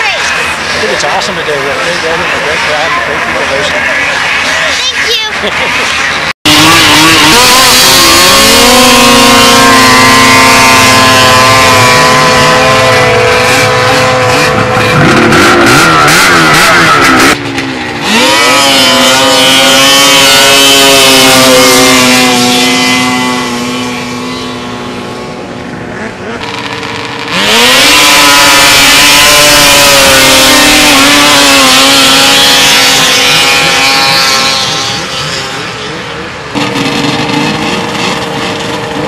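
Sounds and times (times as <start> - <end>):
snowmobile engine at full throttle: 0.0 - 39.0.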